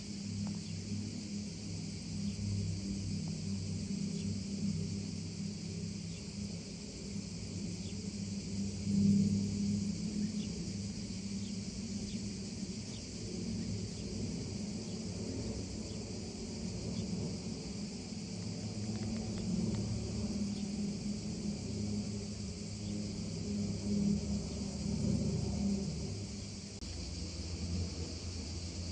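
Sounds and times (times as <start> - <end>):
continuous low rumble: 0.0 - 28.9
high-pitched insect chorus: 0.0 - 28.9.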